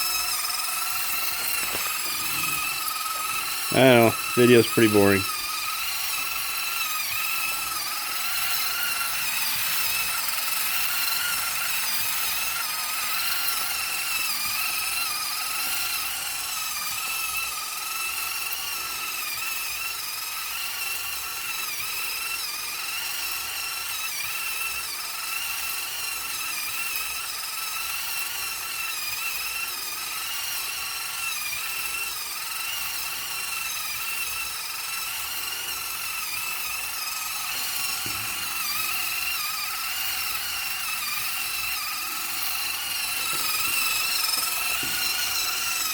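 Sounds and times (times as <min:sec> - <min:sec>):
small electric motor whining: 0:00.0 - 0:45.9.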